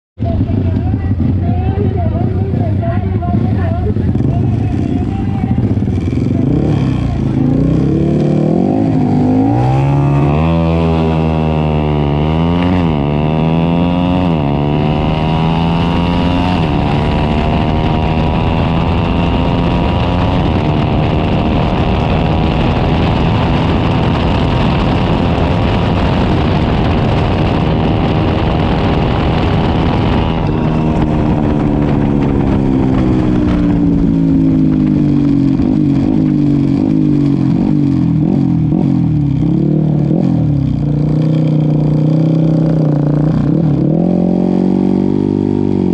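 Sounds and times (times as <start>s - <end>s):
racing motorcycle engine revving: 0.2s - 45.9s.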